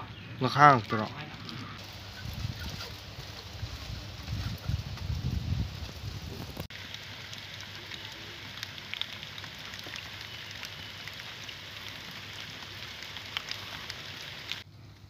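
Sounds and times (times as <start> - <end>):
rain falling on a pond: 1.8 - 14.7.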